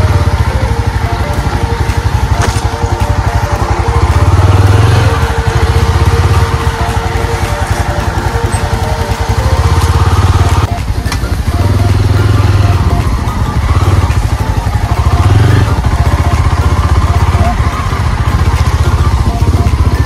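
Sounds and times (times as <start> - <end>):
motorcycle engine on dirt trail: 0.0 - 20.0.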